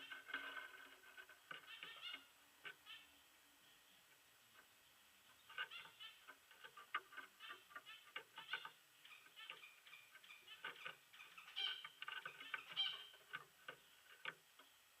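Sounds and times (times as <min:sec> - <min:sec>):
finches chirping and calling: 0:01.1 - 0:14.8.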